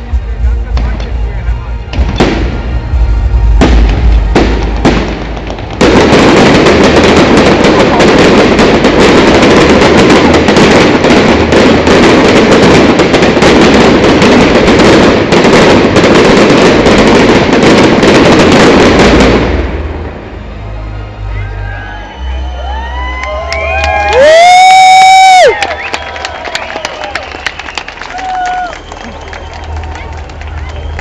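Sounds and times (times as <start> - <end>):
fireworks bangs and crackling: 0.0 - 20.3, 24.0 - 31.0.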